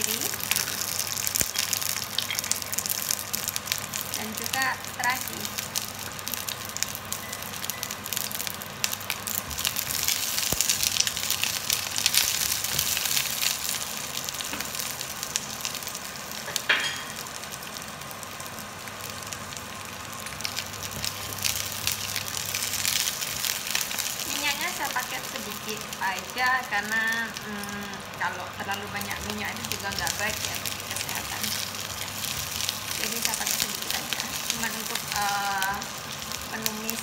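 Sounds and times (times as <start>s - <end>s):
food sizzling in a frying pan: 0.0s - 37.0s.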